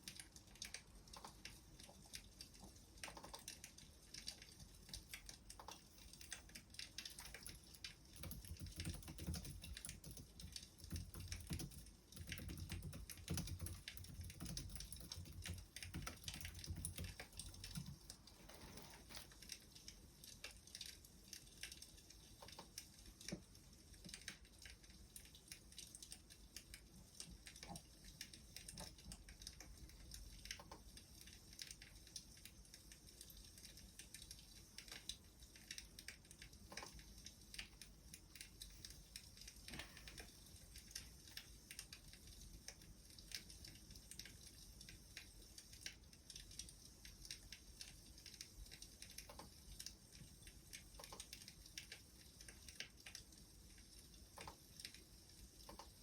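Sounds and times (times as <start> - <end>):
wood fire crackling: 0.0 - 12.2, 12.9 - 56.0.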